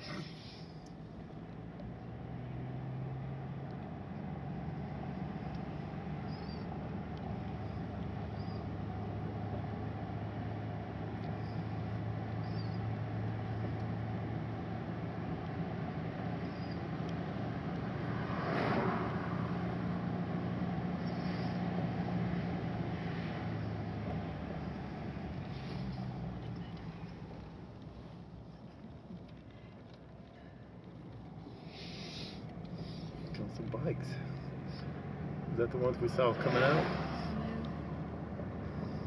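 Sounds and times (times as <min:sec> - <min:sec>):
car engine hum: 0:00.0 - 0:39.0
tyre road rumble: 0:00.0 - 0:39.0.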